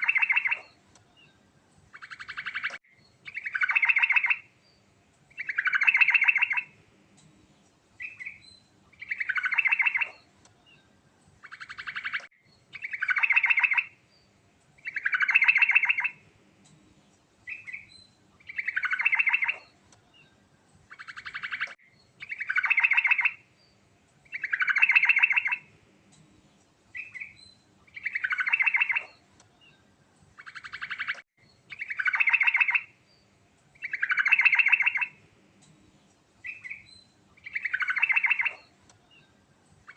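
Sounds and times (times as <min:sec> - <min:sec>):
bird singing trilled phrases: 0:00.0 - 0:06.8, 0:08.0 - 0:16.2, 0:17.4 - 0:25.7, 0:26.9 - 0:35.2, 0:36.4 - 0:39.9
bird chirps: 0:00.0 - 0:39.9.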